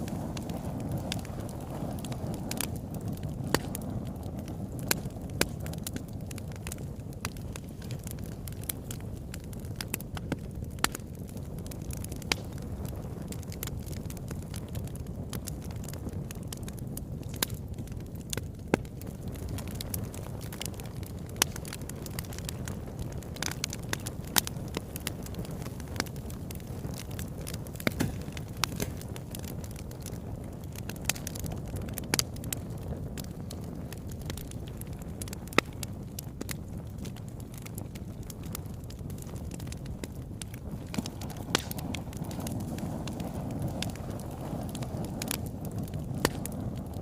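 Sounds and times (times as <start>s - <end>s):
crackles and pops of logs: 0.0s - 47.0s
wood fire rushing: 0.0s - 47.0s.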